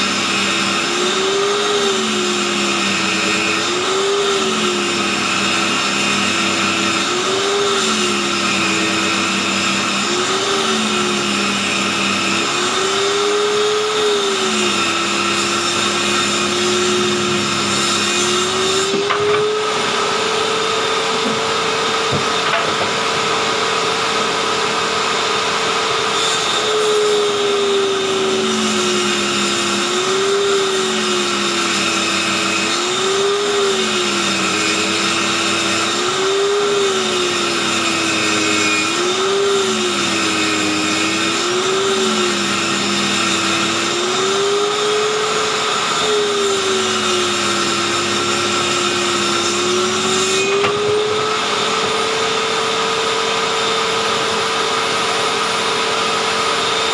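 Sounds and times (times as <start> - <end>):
circular saw cutting wood: 0.0 - 56.9.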